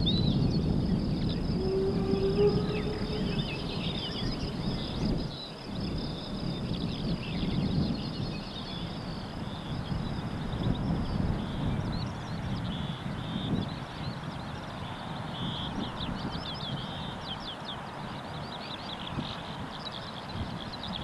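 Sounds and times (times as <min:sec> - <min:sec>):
songbirds chirping and trilling: 0:00.0 - 0:21.0
steady high-pitched hiss: 0:00.0 - 0:21.0
wind rumbling on microphone: 0:00.0 - 0:21.0.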